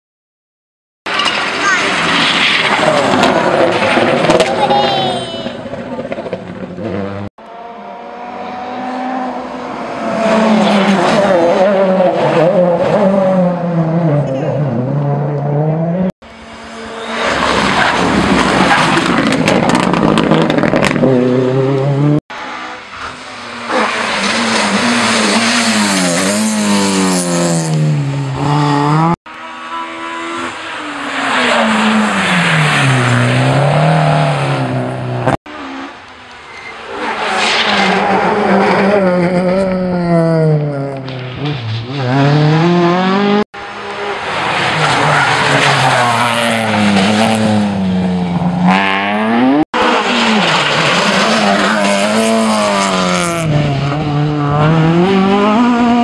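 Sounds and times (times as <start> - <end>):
rally car engines revving: 1.1 - 56.0.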